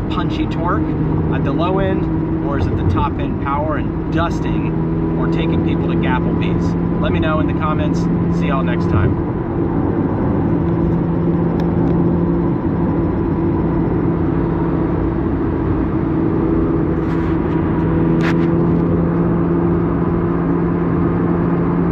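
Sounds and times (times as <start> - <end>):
car engine droning: 0.0 - 21.9
tyre and road noise: 0.0 - 21.9.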